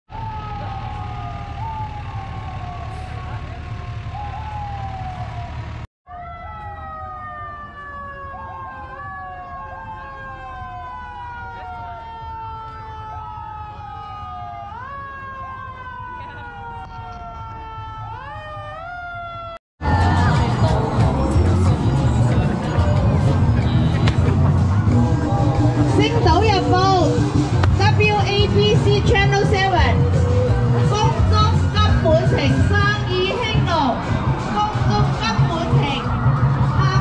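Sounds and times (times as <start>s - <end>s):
emergency vehicle sirens: 0.1s - 37.0s.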